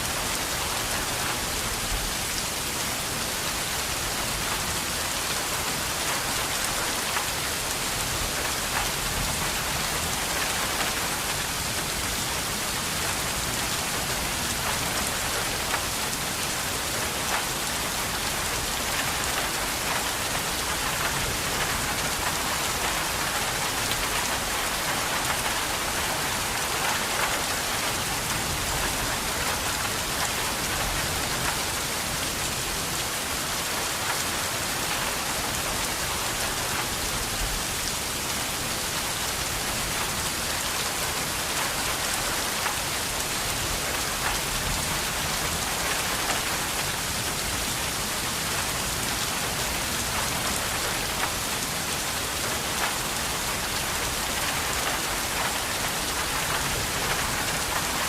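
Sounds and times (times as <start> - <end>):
heavy rain splashing: 0.0 - 58.0.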